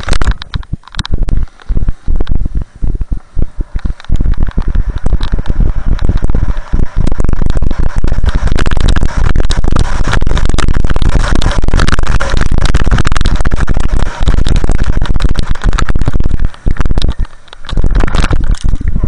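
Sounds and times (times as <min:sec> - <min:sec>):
snow scraping on microphone: 0:00.0 - 0:19.0
wind buffeting microphone: 0:00.0 - 0:19.0.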